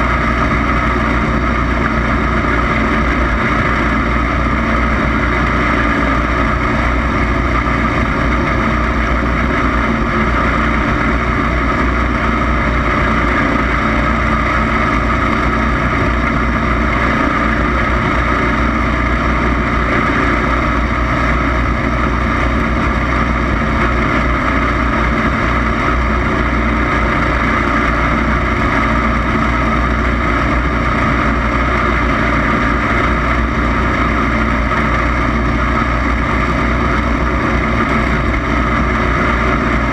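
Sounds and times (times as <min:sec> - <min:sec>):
racing lawn mower engine: 0:00.0 - 0:39.9.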